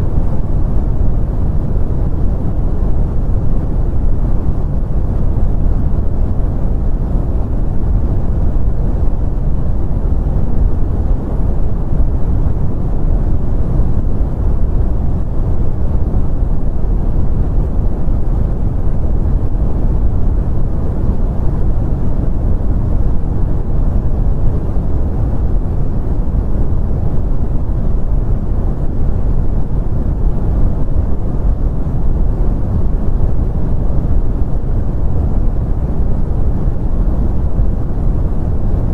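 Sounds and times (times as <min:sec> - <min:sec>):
brown noise: 0:00.0 - 0:38.9.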